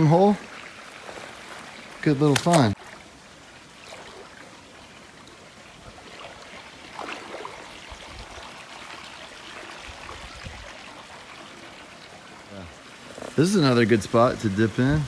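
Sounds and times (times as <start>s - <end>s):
creek trickling over rocks: 0.0s - 15.0s.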